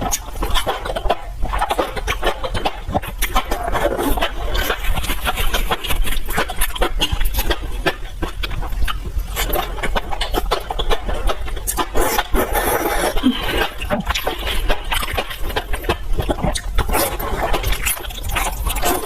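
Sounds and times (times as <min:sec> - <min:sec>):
chewing and slurping food: 0:00.0 - 0:19.0
steady low hum: 0:00.0 - 0:19.0.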